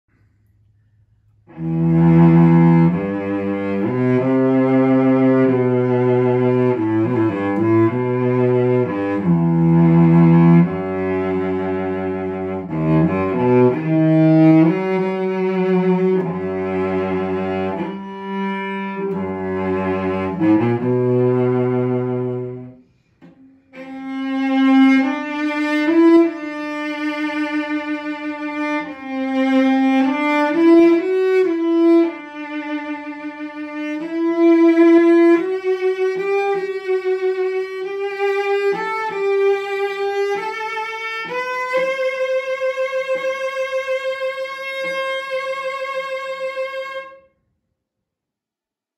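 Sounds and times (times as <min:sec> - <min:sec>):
solo bowed cello: 0:01.3 - 0:47.4.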